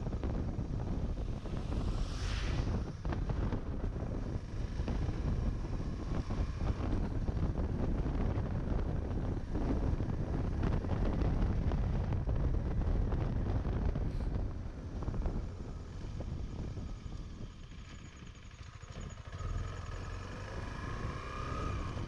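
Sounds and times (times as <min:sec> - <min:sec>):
wind buffeting microphone: 0:00.0 - 0:18.4
motorcycle engine running: 0:00.0 - 0:22.0.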